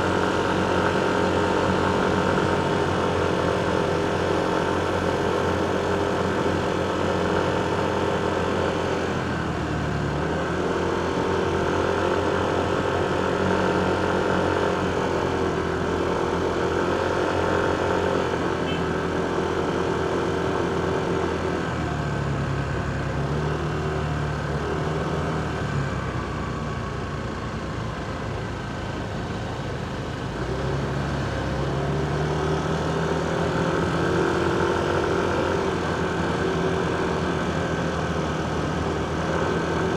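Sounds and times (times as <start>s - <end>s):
hum of surrounding vehicles: 0.0s - 39.9s.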